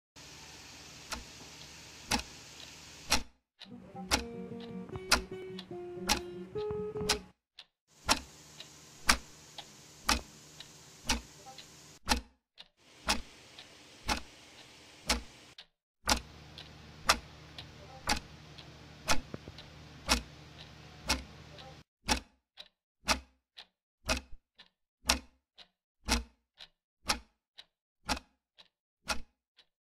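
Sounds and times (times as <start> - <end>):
clock ticking: 1.1 - 1.3, 2.1 - 2.3, 3.1 - 29.7.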